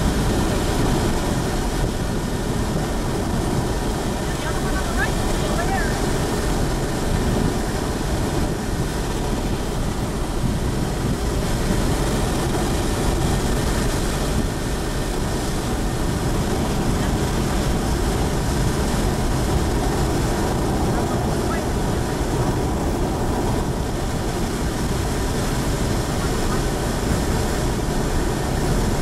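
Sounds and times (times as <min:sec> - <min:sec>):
tyre and wind noise: 0:00.0 - 0:29.0
vehicle driving on gravel road: 0:00.0 - 0:29.0.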